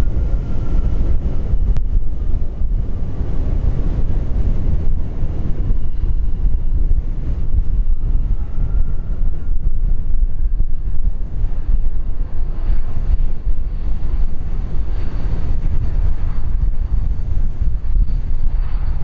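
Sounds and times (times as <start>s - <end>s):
faint high whine: 0.0s - 19.0s
jet engines rumbling: 0.0s - 19.0s
wind buffeting microphone: 0.0s - 19.0s.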